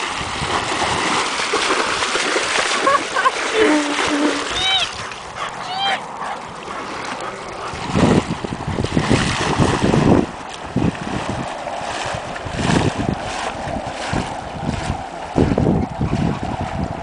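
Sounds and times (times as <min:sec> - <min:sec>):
wind buffeting microphone: 0:00.0 - 0:05.5, 0:06.1 - 0:17.0
water splashing from paddling: 0:00.0 - 0:15.6.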